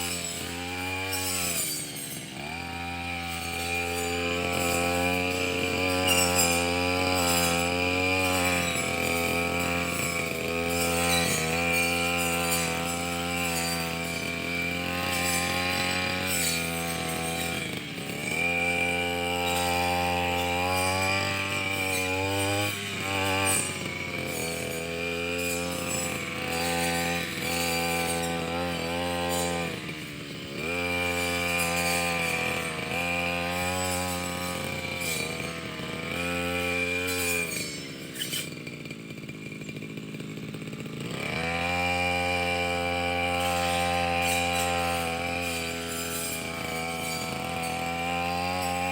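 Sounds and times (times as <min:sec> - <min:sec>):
brush cutter engine: 0:00.0 - 0:48.9.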